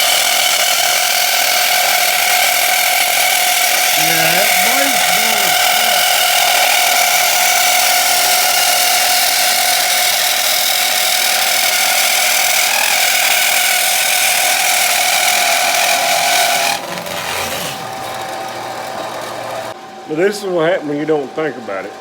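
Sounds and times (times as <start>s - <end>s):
power saw cutting: 0.0s - 19.8s.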